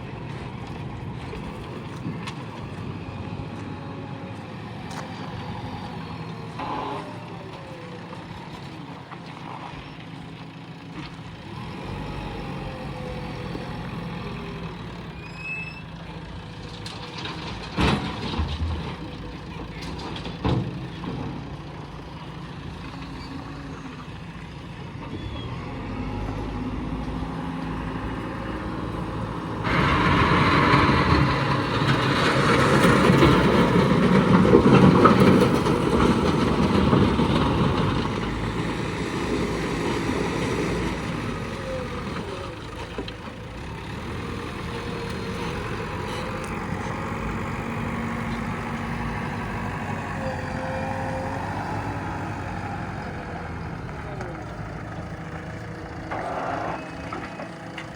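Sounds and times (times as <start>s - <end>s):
diesel engine running: 0.0s - 57.9s
heavy trucks idling: 0.0s - 57.9s.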